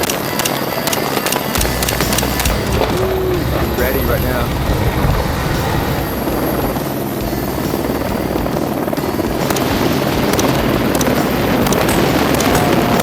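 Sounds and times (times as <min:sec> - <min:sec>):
helicopter running: 0:00.0 - 0:13.0.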